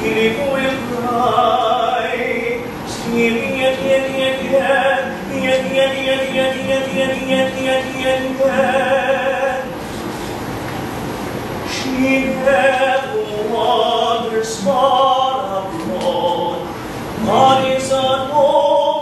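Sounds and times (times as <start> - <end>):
man singing classical song: 0.0 - 9.8, 11.7 - 19.0
guitar accompaniment: 0.0 - 19.0.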